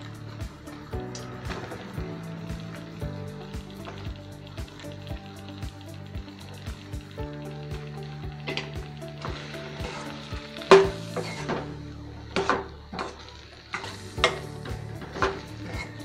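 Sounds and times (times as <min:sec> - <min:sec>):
background music: 0:00.0 - 0:16.0
sauce sizzling: 0:00.0 - 0:16.0.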